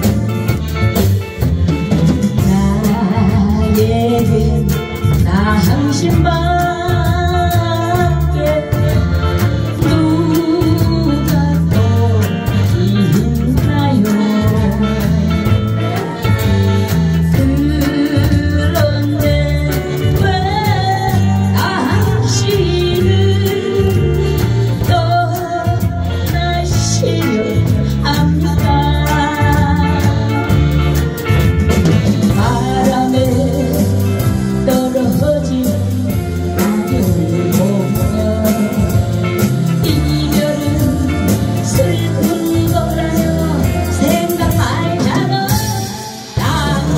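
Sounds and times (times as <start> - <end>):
pop band playing: 0.0 - 46.9
woman singing into a microphone: 1.7 - 46.9.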